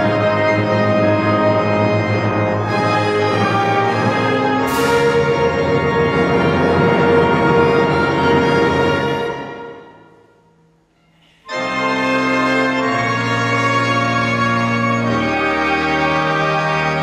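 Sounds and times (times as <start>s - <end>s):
orchestra playing sustained chords: 0.0s - 10.5s, 11.5s - 17.0s.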